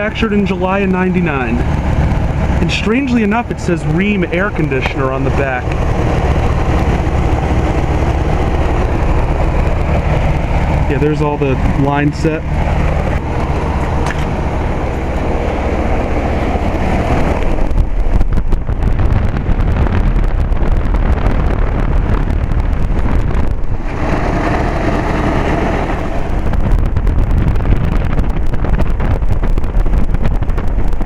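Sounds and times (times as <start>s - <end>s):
compressor humming: 0.0s - 31.0s
condenser fan rushing: 0.0s - 31.0s
wind crackling on microphone: 0.0s - 31.0s.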